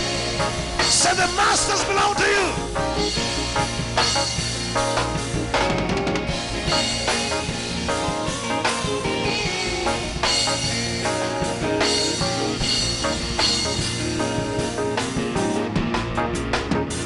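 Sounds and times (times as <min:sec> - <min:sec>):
drum kit steady beat: 0:00.0 - 0:17.0
worship band playing: 0:00.0 - 0:17.0.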